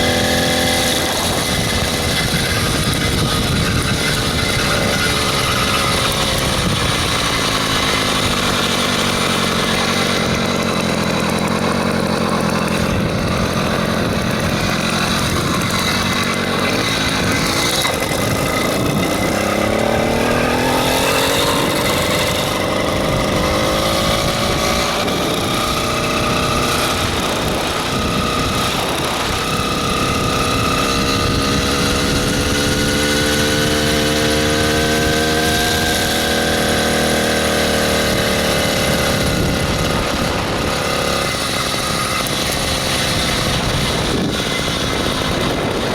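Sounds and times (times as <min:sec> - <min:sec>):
two-stroke engine running: 0:00.0 - 0:45.9.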